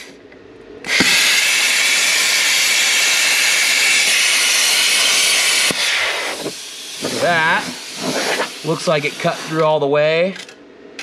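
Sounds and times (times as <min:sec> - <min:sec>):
plasma cutter arc hissing: 0:00.9 - 0:09.8
soft air hiss: 0:01.0 - 0:10.1.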